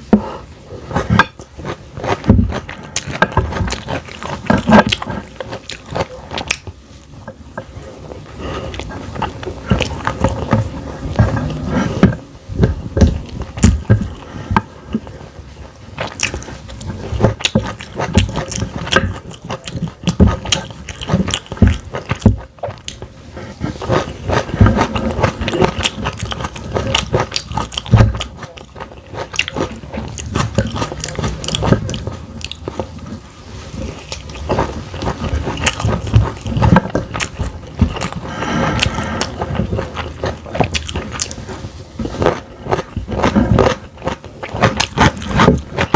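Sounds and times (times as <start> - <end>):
biting and chewing food: 0.0 - 45.9.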